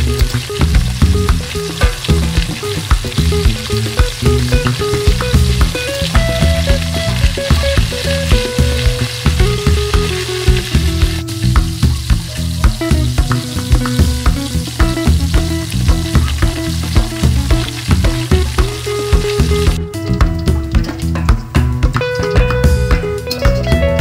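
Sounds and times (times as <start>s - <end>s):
background music with steady beat: 0.0s - 24.0s
pork sizzling in a pan: 0.0s - 24.0s.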